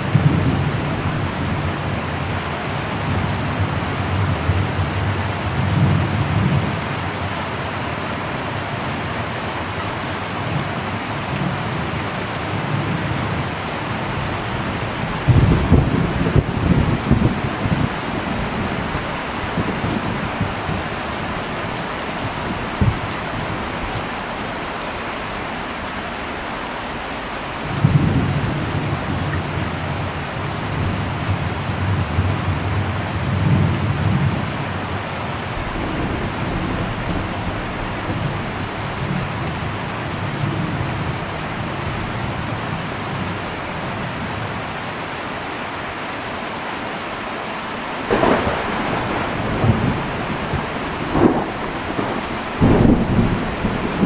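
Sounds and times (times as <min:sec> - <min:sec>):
low thunder rumble: 0:00.0 - 0:07.2, 0:09.4 - 0:26.4, 0:27.5 - 0:43.4, 0:48.1 - 0:54.0
heavy rain on a metal roof: 0:00.0 - 0:54.0.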